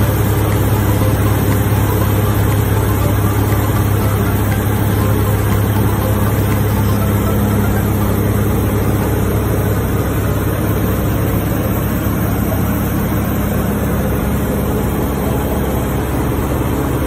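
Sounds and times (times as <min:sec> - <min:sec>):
aircraft engine droning: 0:00.0 - 0:17.0.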